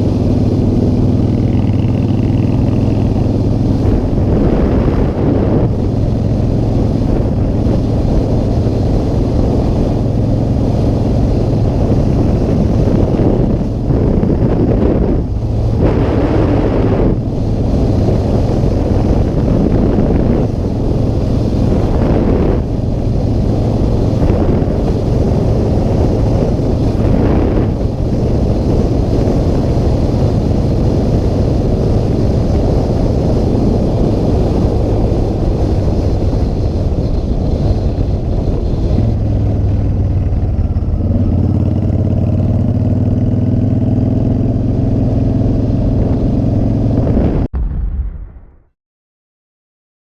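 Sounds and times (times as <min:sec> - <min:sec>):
motorcycle engine running: 0:00.0 - 0:47.5
wind rushing over microphone: 0:00.0 - 0:48.7.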